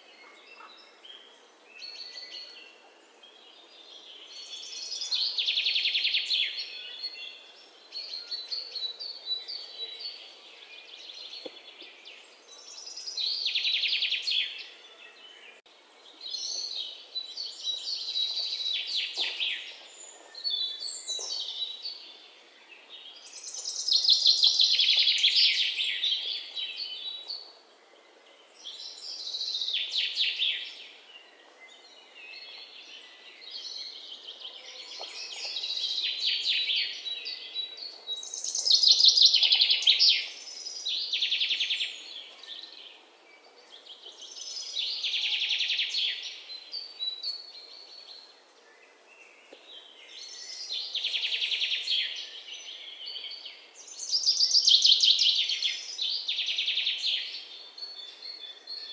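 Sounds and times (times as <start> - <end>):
faint outdoor hiss: 0.0 - 58.9
songbirds singing trills: 0.0 - 58.9.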